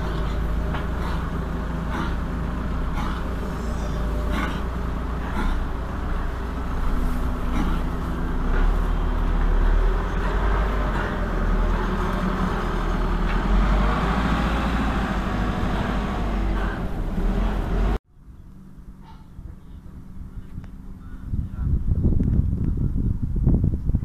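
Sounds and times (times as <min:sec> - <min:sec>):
diesel engine running: 0:00.0 - 0:21.4.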